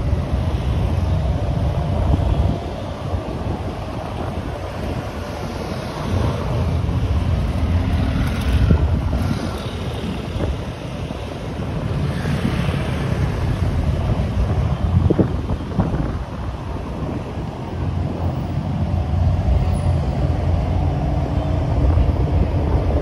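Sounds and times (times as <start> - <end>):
city street traffic rumble: 0.0 - 23.0
wind on microphone: 0.0 - 23.0.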